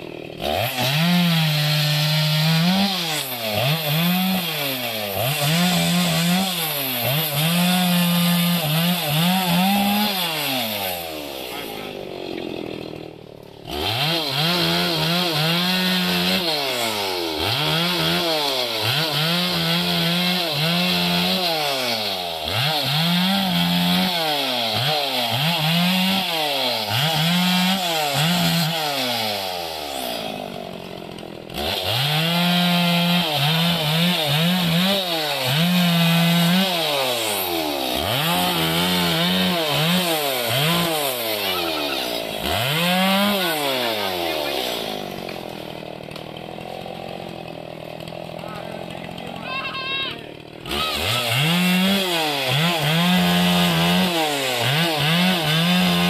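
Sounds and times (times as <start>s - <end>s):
chainsaw cutting branches: 0.0s - 56.0s.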